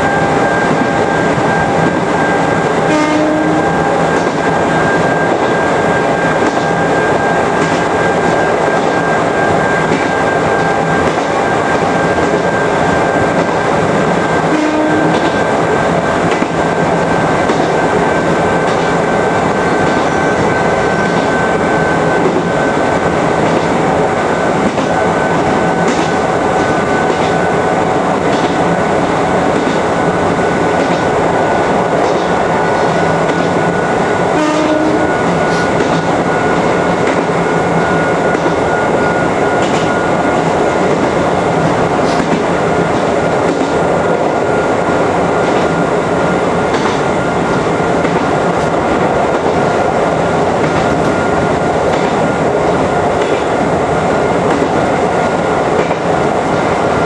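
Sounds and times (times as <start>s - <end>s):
steady high tone: 0.0s - 55.8s
train wheels on rails: 0.0s - 57.0s.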